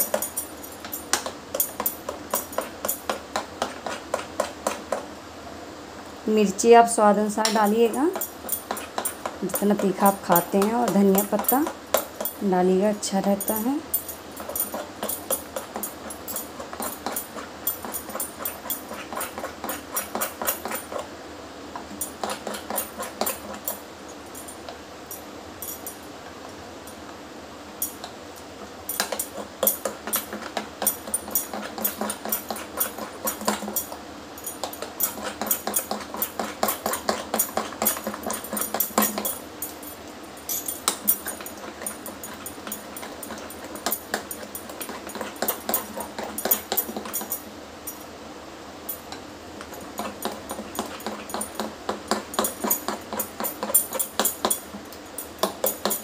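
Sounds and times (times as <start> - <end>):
spoon beating batter in glass bowl: 0.0 - 5.1, 7.4 - 21.1, 21.8 - 23.8, 29.0 - 39.8, 40.8 - 47.5, 49.0 - 56.0.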